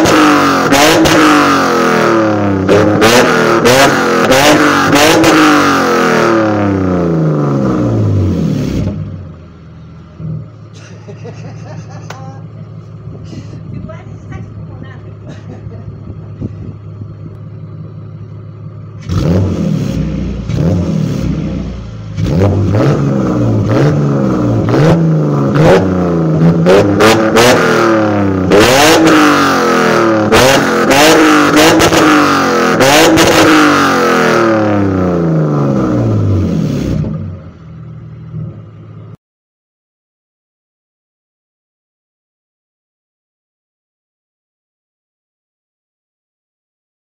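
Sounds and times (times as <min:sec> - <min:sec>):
car engine revving: 0:00.0 - 0:39.2.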